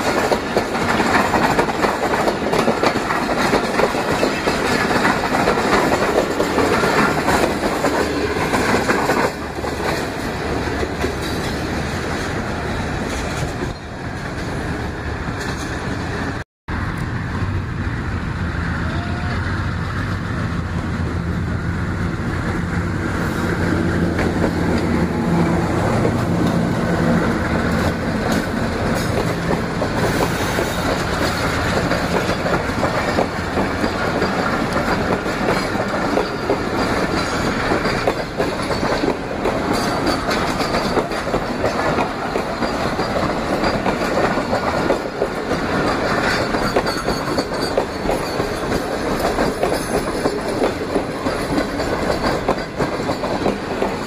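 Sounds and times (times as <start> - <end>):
diesel locomotive engine drone: 0.0 - 54.0
train coaches clickety-clack on rails: 0.0 - 54.0.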